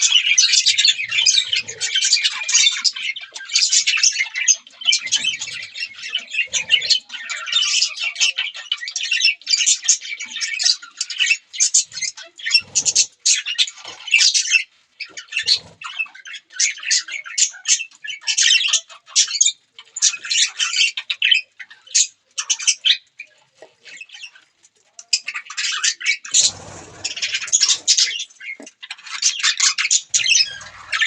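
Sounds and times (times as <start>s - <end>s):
budgerigars chattering: 0.0s - 23.0s, 25.1s - 31.0s.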